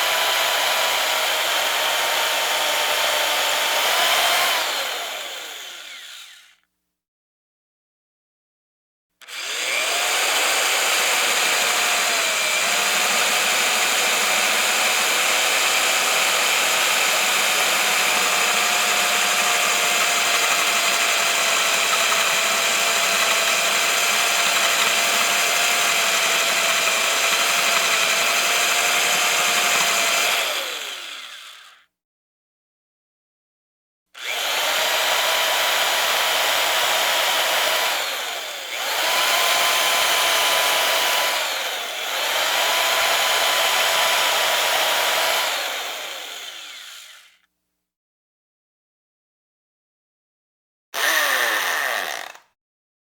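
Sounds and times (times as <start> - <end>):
hammer drill motor whining: 0.0 - 6.6, 9.2 - 31.9, 34.2 - 47.5, 51.0 - 52.5.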